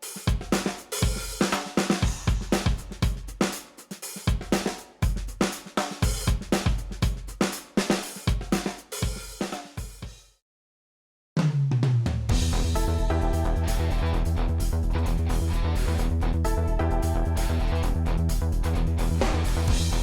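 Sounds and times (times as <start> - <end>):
drum kit beat: 0.0 - 10.3, 11.4 - 20.0.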